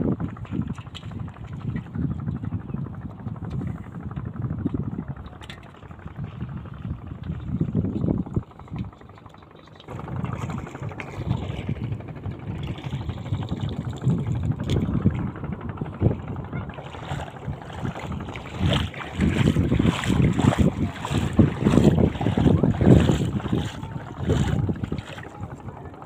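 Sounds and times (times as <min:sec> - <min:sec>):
boat engine running: 0:00.0 - 0:26.0
wind buffeting microphone: 0:00.0 - 0:26.0.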